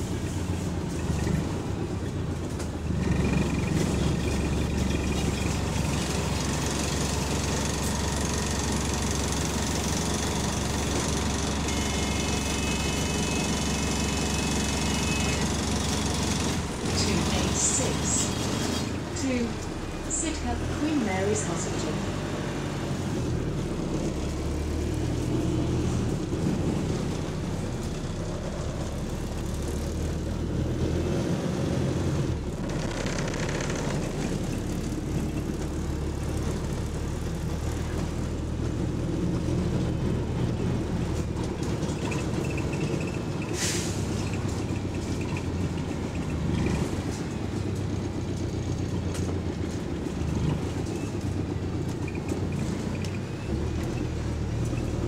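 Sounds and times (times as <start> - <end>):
bus engine droning: 0.0 - 55.0
road noise: 0.0 - 55.0.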